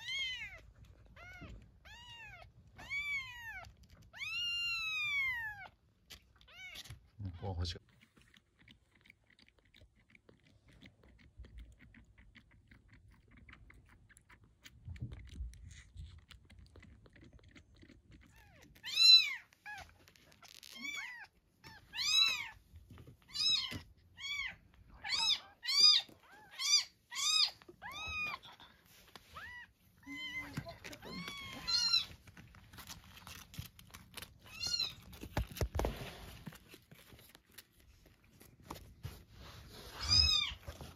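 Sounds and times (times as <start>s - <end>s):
kitten suckling at bottle: 0.0s - 40.9s.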